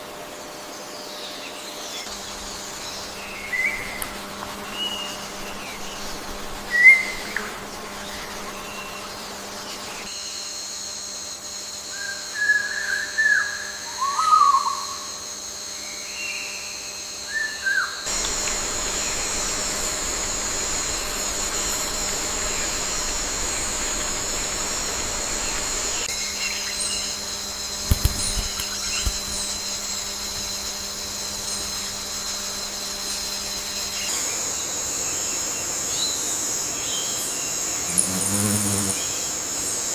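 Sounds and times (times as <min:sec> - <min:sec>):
high-pitched insect drone: 0:02.1 - 0:39.9.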